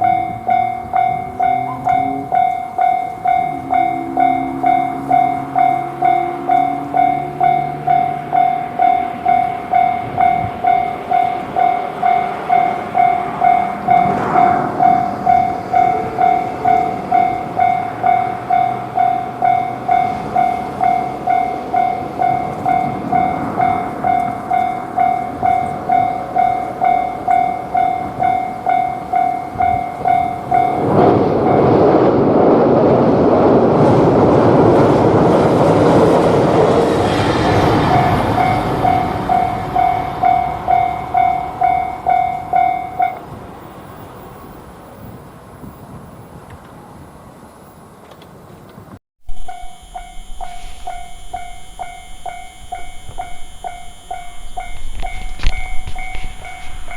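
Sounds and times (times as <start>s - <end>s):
railroad crossing warning bell: 0.0s - 45.2s, 49.2s - 56.9s
electric train passing: 0.0s - 48.0s, 49.2s - 56.9s.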